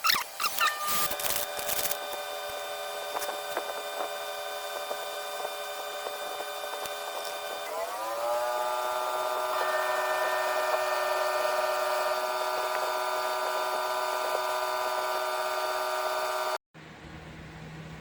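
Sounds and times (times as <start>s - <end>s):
small drill whining: 0.0s - 16.6s.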